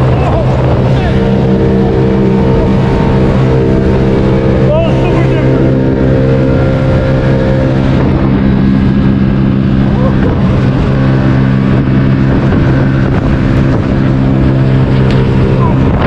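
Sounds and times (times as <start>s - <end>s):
rushing water and spray: 0.0s - 16.0s
watercraft engine running: 0.0s - 16.0s.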